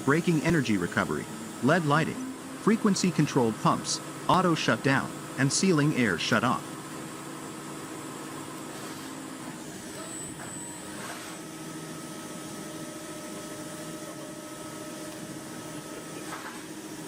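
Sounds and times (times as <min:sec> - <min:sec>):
machine mechanical hum: 0:00.0 - 0:17.0
thin machine whine: 0:00.0 - 0:17.0.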